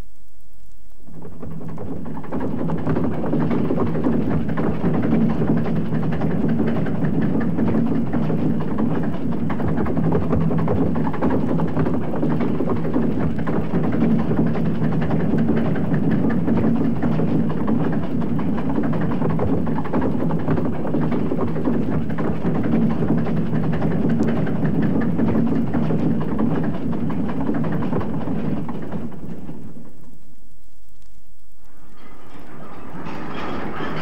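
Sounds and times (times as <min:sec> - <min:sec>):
steam engine rumble: 0:01.1 - 0:30.8, 0:31.4 - 0:34.0.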